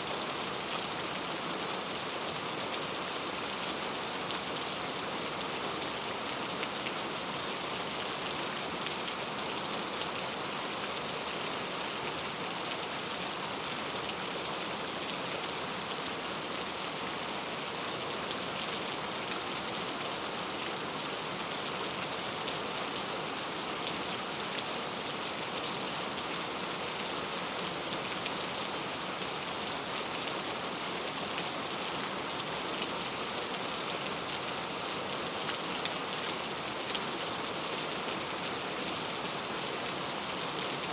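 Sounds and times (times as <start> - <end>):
rain on a road: 0.0 - 40.9.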